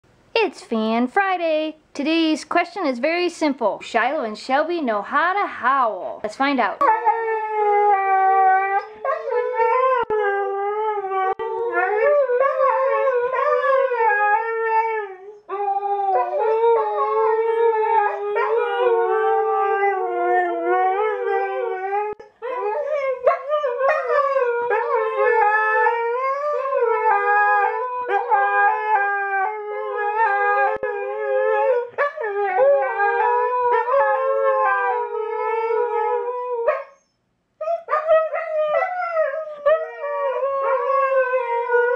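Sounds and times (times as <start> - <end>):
dogs howling: 6.8 - 37.0, 37.6 - 41.9.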